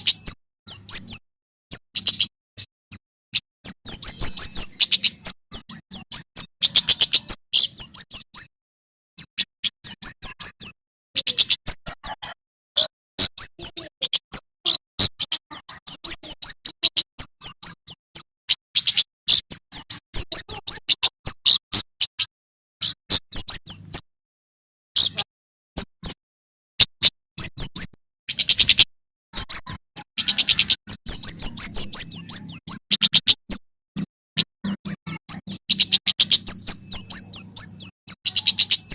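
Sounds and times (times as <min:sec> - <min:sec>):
bird singing sharp chirping notes: 0:00.0 - 0:08.5, 0:09.2 - 0:24.1, 0:27.0 - 0:38.9.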